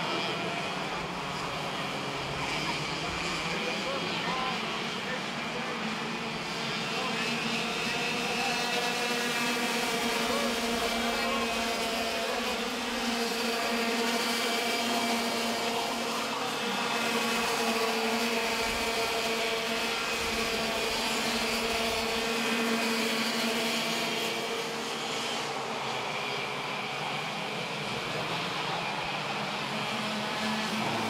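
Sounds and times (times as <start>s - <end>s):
kart engines buzzing: 0.0s - 31.0s.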